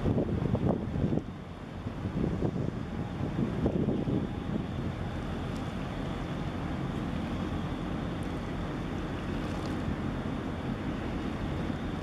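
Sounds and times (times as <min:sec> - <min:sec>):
water washing against quay: 0:00.0 - 0:12.0
wind buffeting microphone: 0:00.0 - 0:12.0.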